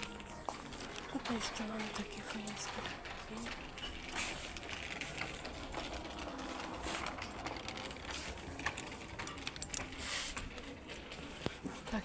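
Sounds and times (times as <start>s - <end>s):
clothes rustling: 0.0s - 12.0s.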